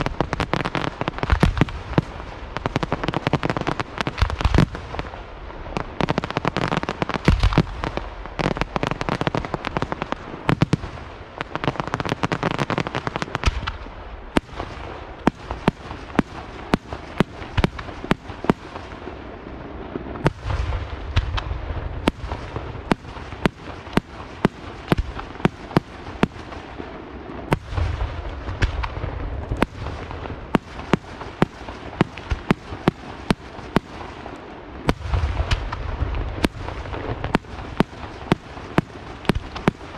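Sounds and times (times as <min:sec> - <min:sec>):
fireworks crackling and booming: 0:00.0 - 0:39.9
sharp fireworks bangs: 0:00.0 - 0:39.9.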